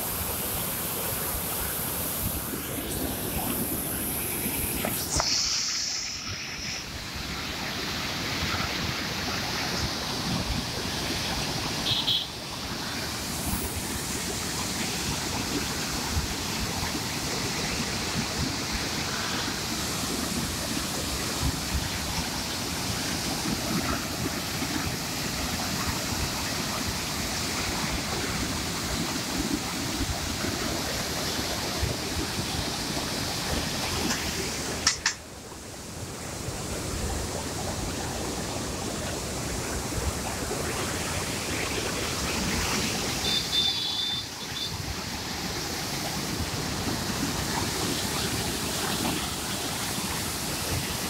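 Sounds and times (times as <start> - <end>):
river water rushing through sluice: 0.0 - 51.0.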